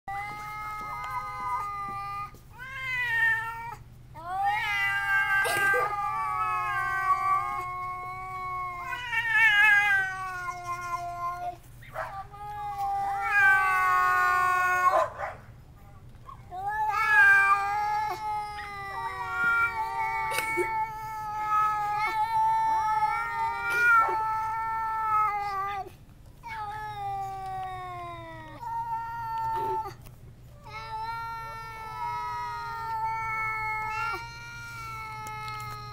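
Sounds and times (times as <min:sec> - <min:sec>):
cats caterwauling: 0:00.1 - 0:15.2, 0:16.3 - 0:35.9.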